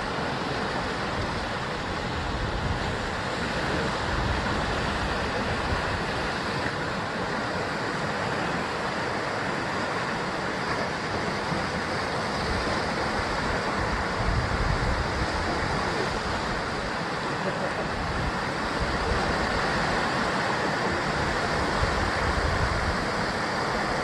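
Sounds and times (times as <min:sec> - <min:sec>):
waves breaking on rocky shore: 0:00.0 - 0:24.0
wind on microphone: 0:00.0 - 0:24.0.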